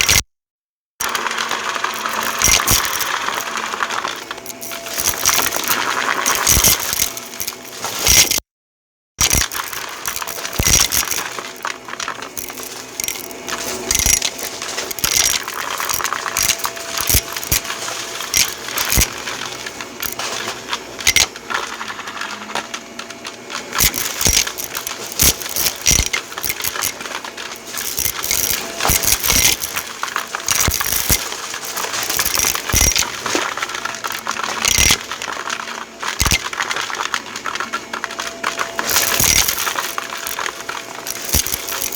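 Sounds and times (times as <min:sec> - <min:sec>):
small hard objects clicking: 0:00.0 - 0:00.2, 0:01.0 - 0:08.4, 0:09.2 - 0:41.9.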